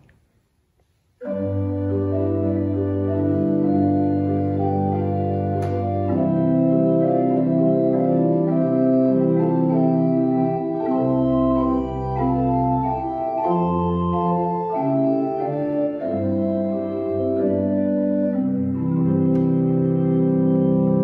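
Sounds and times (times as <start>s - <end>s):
church organ playing chords: 1.2s - 21.0s.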